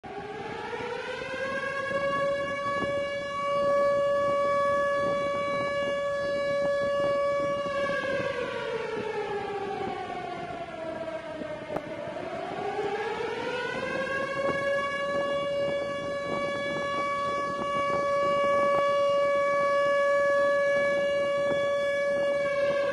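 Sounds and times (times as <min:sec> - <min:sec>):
siren wailing: 0:00.0 - 0:22.9.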